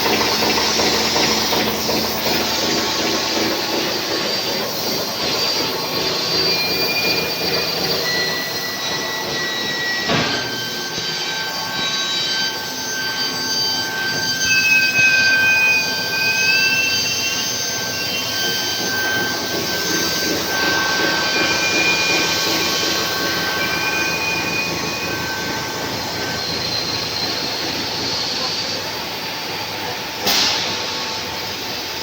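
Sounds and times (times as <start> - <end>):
wavering squeal: 0.0 - 30.0
factory machinery din: 0.0 - 32.0
high machine whines: 0.0 - 32.0.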